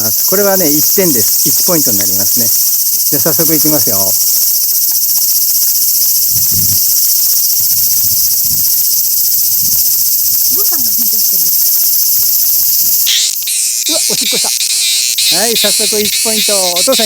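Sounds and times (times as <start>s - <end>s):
cicadas singing: 0.0s - 17.0s.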